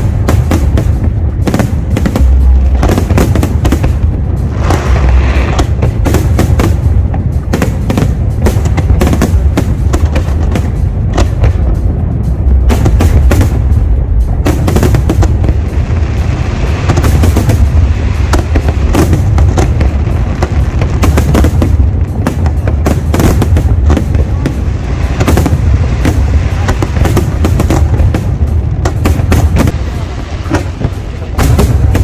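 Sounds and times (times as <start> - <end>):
fireworks bursting: 0.0 - 32.0
low rumble: 0.0 - 32.0.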